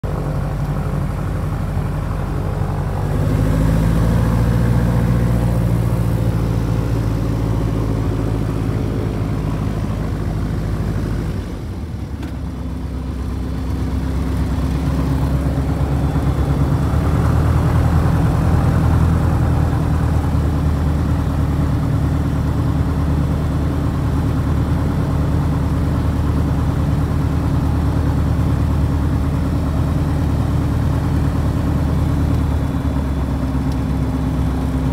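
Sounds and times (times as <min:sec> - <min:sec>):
plane engine and propeller: 0:00.0 - 0:34.9.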